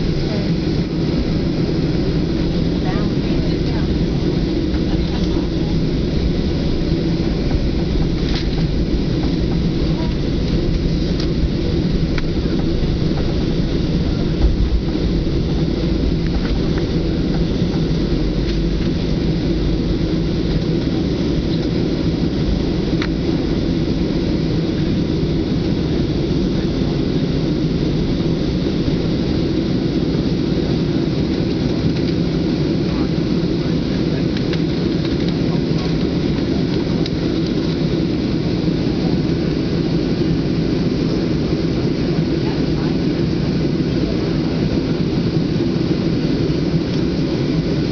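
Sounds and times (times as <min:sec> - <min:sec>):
aircraft cabin low rumble: 0:00.0 - 0:47.9.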